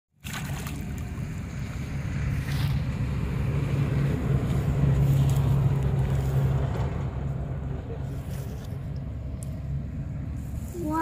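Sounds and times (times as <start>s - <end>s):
low motor hum: 0.2s - 11.0s.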